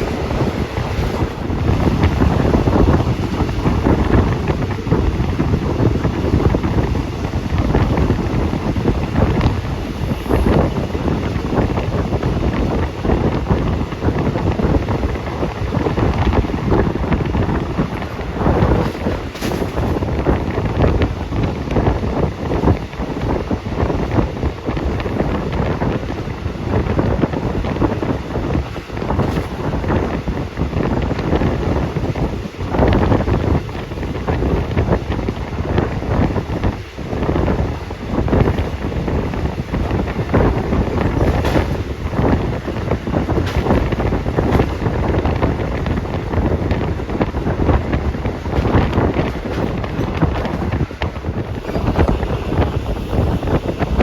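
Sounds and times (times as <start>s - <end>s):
moving train rumble: 0.0s - 54.0s
wind buffeting microphone: 0.0s - 54.0s.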